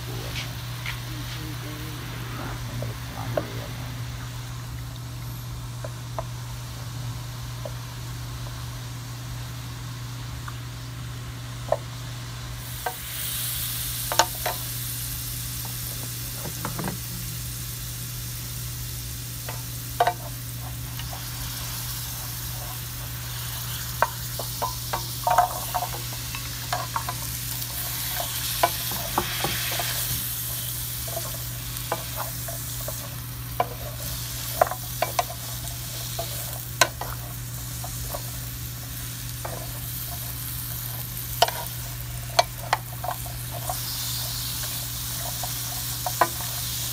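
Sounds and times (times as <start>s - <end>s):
vegetables sizzling in butter: 0.0s - 46.9s.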